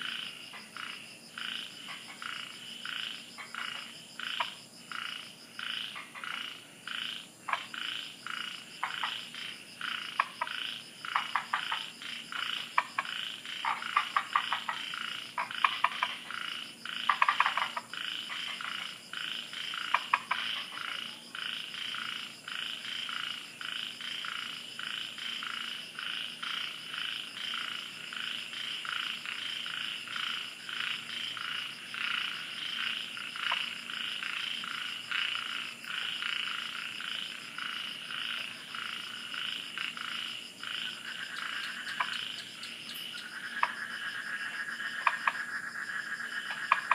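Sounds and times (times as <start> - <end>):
frogs clicking calls: 0.0 - 46.9
pulsing frog chorus: 0.0 - 46.9.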